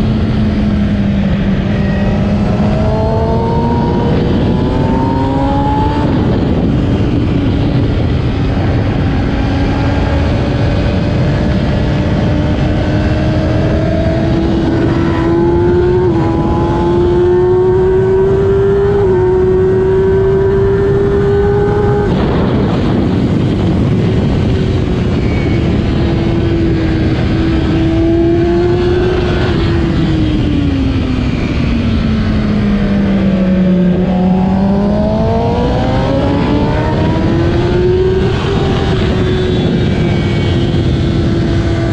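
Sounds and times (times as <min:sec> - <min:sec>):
motorcycle engine revving at speed: 0:00.0 - 0:41.9
wind rush: 0:00.0 - 0:41.9.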